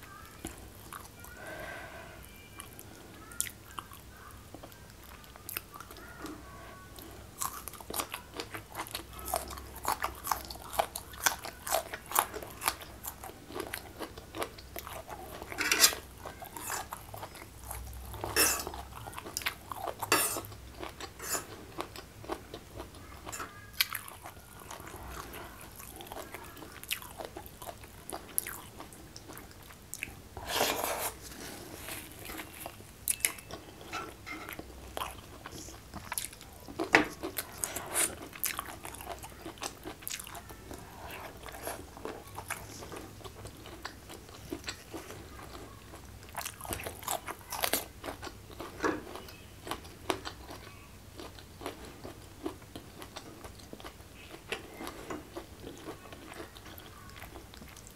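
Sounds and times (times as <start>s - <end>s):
person chewing food: 0.4s - 57.9s.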